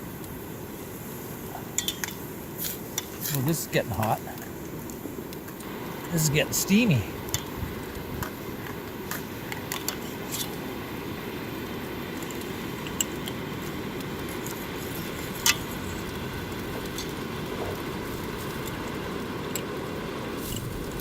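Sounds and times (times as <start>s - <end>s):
campfire burning: 0.0s - 21.0s
fire crackles: 0.0s - 21.0s.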